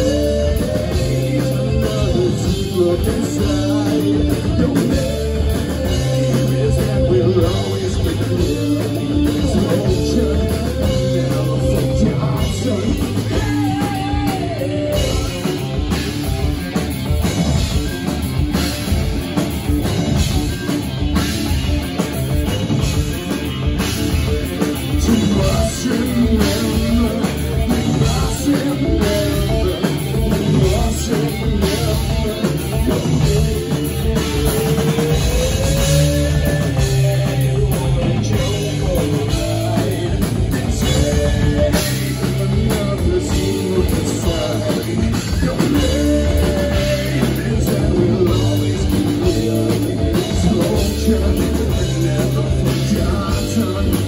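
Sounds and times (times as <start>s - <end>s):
person singing: 0.0s - 16.2s, 24.7s - 54.0s
drum kit: 0.0s - 54.0s
electric guitars: 0.0s - 54.0s.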